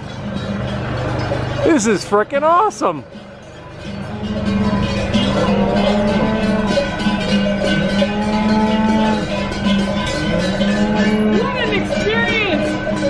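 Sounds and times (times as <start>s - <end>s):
cowbells clanking: 0.0s - 13.0s.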